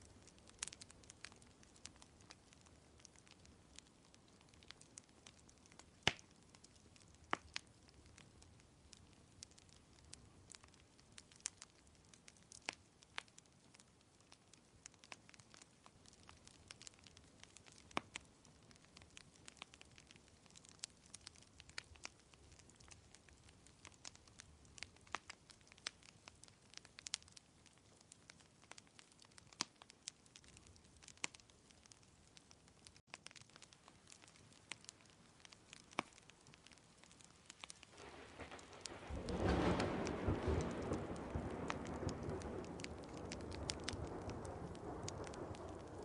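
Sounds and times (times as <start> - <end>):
faint steady hiss: 0.0 - 46.0
wood fire crackling: 0.0 - 46.0.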